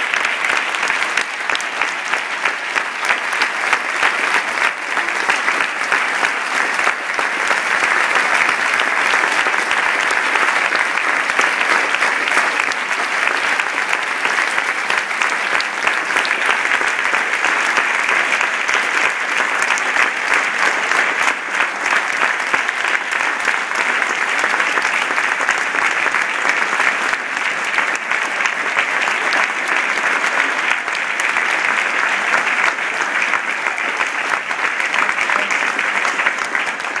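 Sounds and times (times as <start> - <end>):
audience applauding: 0.0 - 37.0.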